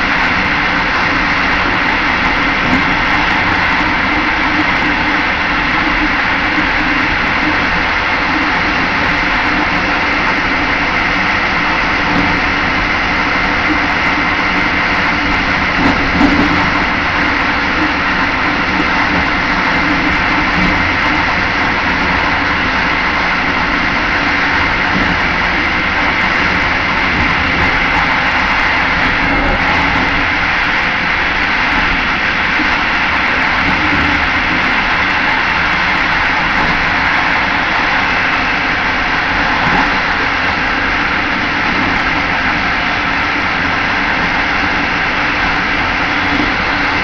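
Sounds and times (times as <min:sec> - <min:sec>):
train wheels rolling on rails: 0:00.0 - 0:47.0.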